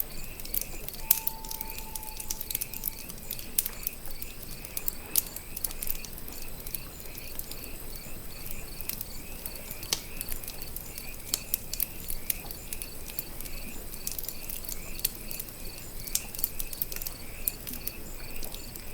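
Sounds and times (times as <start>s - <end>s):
campfire crackling and popping: 0.0s - 18.9s
crickets chirping: 0.0s - 18.9s.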